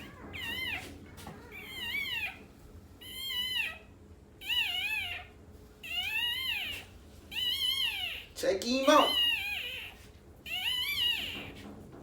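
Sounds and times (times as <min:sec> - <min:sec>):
puppy crying: 0:00.0 - 0:11.6.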